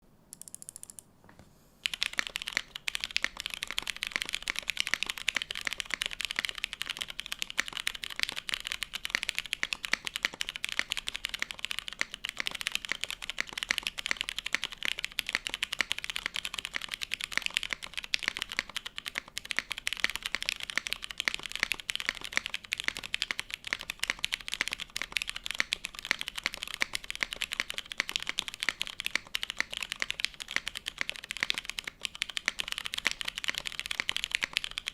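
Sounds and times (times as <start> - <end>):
mechanical keyboard typing: 0.3 - 1.0, 1.8 - 34.9
keystroke clacks: 0.3 - 1.1, 1.8 - 34.9.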